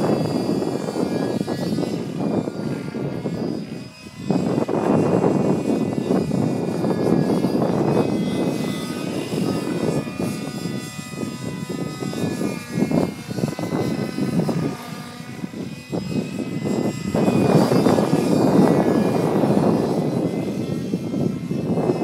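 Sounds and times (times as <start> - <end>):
model helicopter engine running: 0.0 - 22.0.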